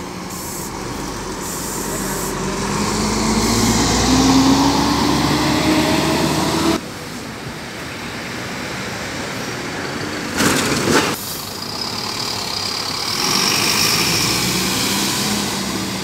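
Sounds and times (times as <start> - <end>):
bus diesel engine accelerating: 0.0 - 16.0.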